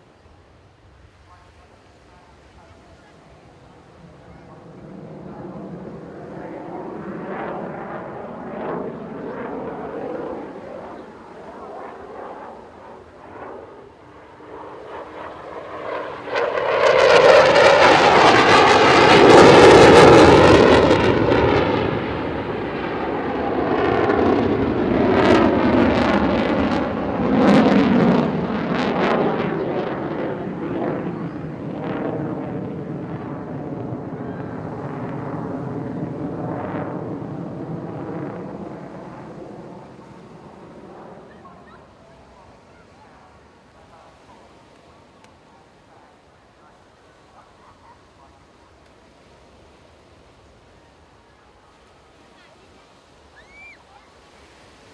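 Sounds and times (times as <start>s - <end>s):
jet engines roaring: 3.0s - 53.7s.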